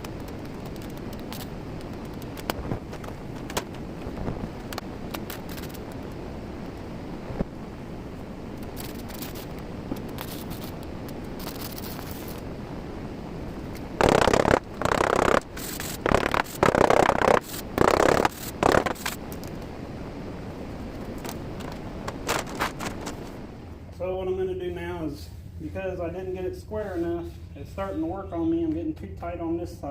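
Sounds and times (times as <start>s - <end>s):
low background noise: 0.0s - 29.9s.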